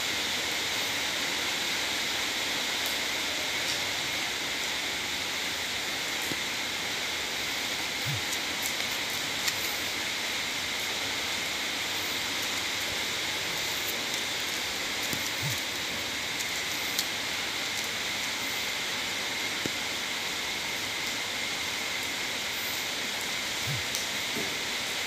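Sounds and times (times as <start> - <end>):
rain hissing: 0.0 - 25.0.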